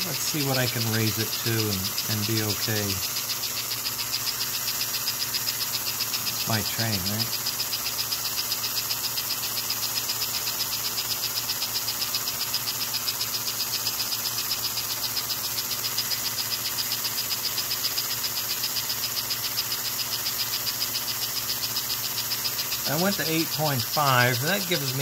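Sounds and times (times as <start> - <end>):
low electrical hum: 0.0 - 25.0
toy locomotive mechanical whir: 0.0 - 25.0.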